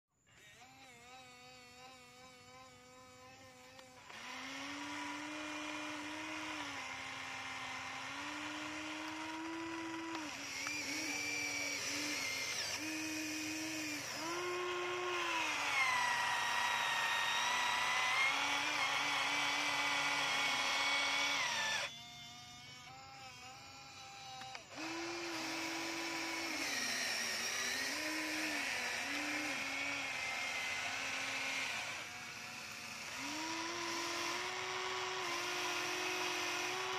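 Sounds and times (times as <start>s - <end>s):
toy excavator motors whining: 0.2s - 36.9s.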